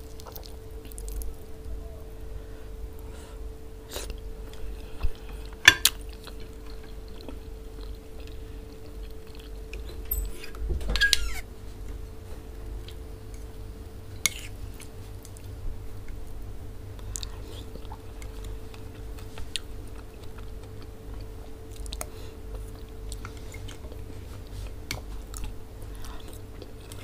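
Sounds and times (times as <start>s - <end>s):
chewing and wet mouth sounds: 0.0s - 1.7s, 3.8s - 10.6s, 12.7s - 16.2s, 17.0s - 27.0s.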